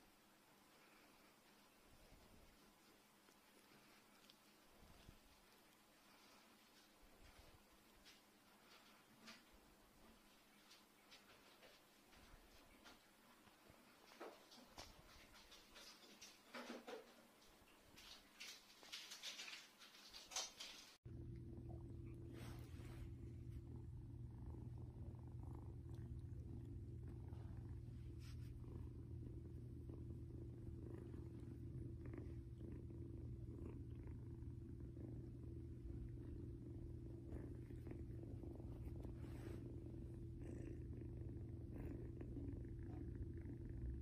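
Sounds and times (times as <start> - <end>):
kitten purring: 0.0 - 44.0
faint rustles: 0.2 - 21.0, 21.9 - 44.0.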